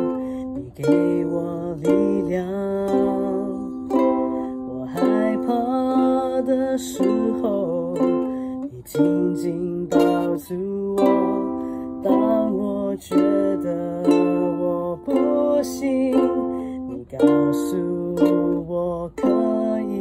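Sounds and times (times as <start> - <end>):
ukulele strumming chords: 0.0 - 20.0
woman singing: 0.0 - 20.0.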